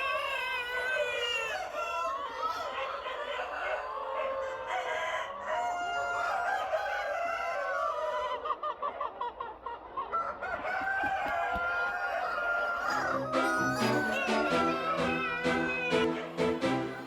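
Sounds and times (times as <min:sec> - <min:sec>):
roosters crowing: 0:00.0 - 0:08.6, 0:10.0 - 0:17.0
hens clucking: 0:00.0 - 0:17.0.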